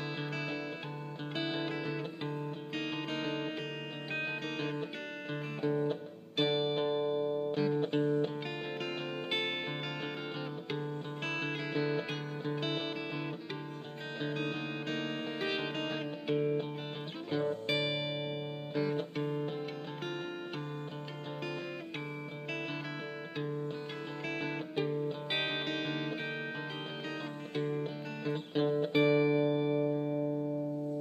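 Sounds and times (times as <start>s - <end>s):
guitar music: 0.0s - 31.0s.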